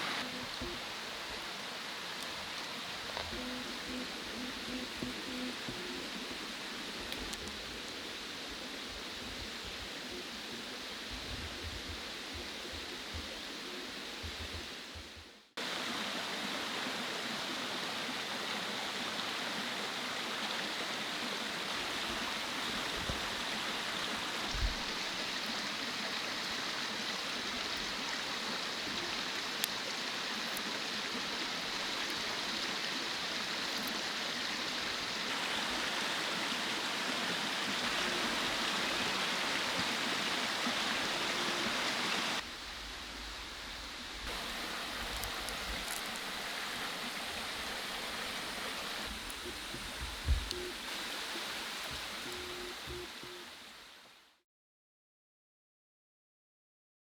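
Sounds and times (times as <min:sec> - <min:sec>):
stream rushing over rocks: 0:00.0 - 0:15.0, 0:15.6 - 0:54.2.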